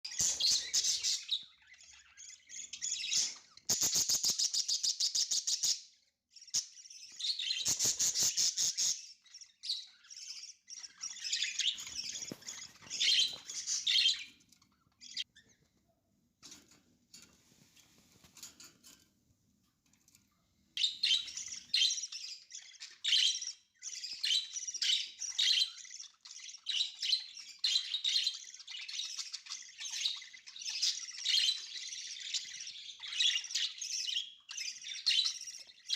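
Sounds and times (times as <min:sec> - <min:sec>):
budgerigars chirping and trilling: 0:00.1 - 0:15.7, 0:20.8 - 0:35.9.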